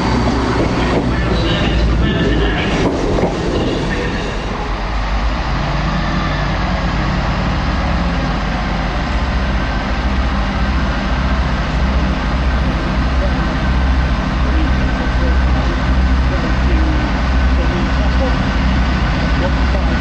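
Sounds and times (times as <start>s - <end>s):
rail rumble: 0.0s - 20.0s
train diesel engine droning: 0.0s - 20.0s.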